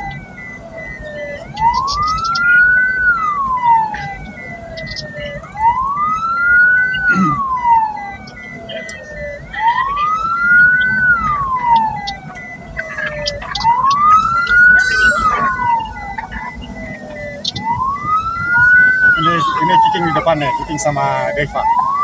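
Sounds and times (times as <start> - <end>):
engine and road rumble: 0.0 - 22.0
wailing siren: 0.0 - 22.0.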